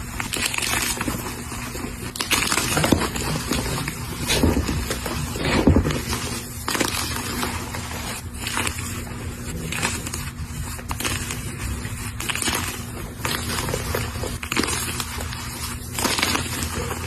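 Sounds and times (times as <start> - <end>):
chalk block crunching and crumbling: 0.0 - 17.0.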